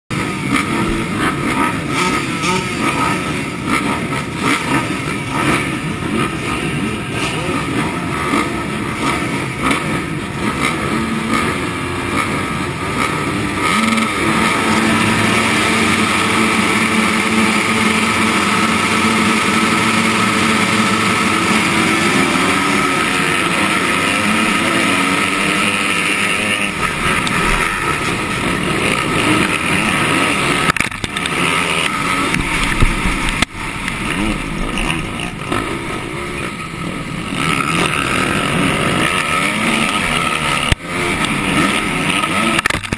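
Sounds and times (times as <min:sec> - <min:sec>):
motocross engines revving: 0:00.1 - 0:42.9
motorbikes accelerating at full throttle: 0:00.1 - 0:42.9.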